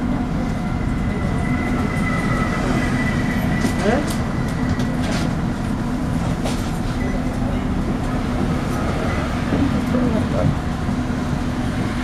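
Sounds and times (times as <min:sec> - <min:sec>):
bus engine and road drone: 0:00.0 - 0:12.0.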